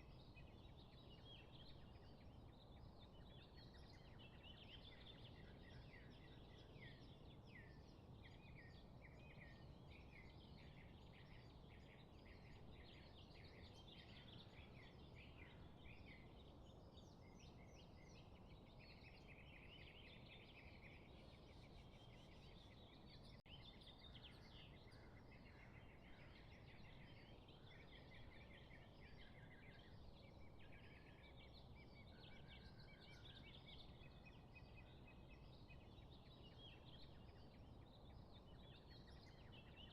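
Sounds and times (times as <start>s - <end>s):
low background hiss: 0.0s - 39.9s
songbirds chirping and trilling: 0.0s - 39.9s.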